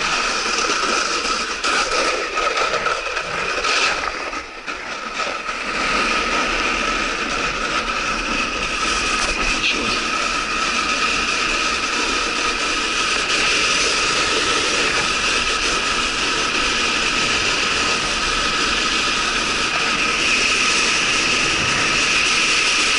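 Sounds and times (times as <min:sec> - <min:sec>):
skis scraping over slush: 0:00.0 - 0:22.9.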